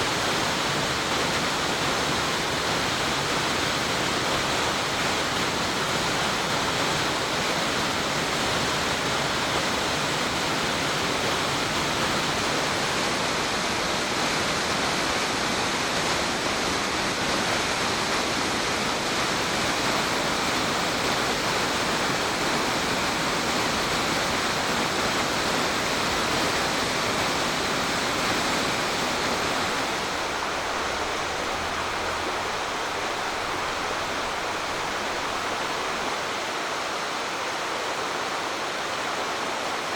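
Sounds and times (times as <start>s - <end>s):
stream water rushing: 0.0s - 39.9s
waterfall rushing: 0.0s - 39.9s.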